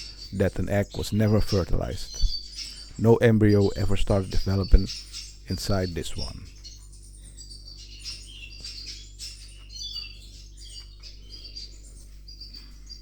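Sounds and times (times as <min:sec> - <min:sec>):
canaries chirping: 0:00.0 - 0:13.0
low steady hum: 0:00.0 - 0:13.0.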